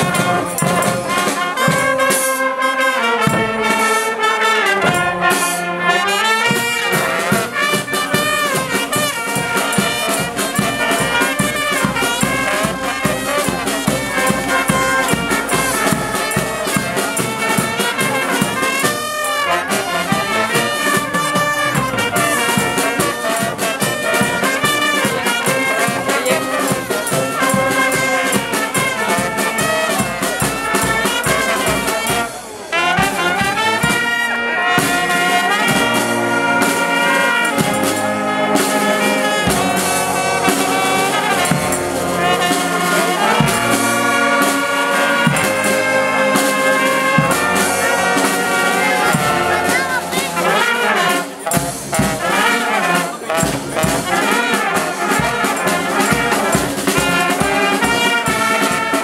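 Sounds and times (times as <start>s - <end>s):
bass drum and percussion beat: 0.0s - 2.3s, 6.4s - 32.4s, 34.8s - 50.7s, 51.4s - 52.5s, 53.3s - 59.0s
brass band playing: 0.0s - 59.0s.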